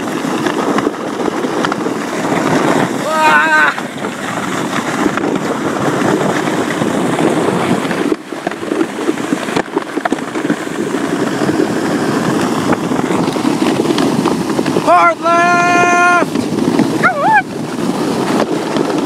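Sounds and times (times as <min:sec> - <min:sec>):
sled rig crunching and rattling: 0:00.0 - 0:19.0
wind rushing over microphone: 0:00.0 - 0:19.0.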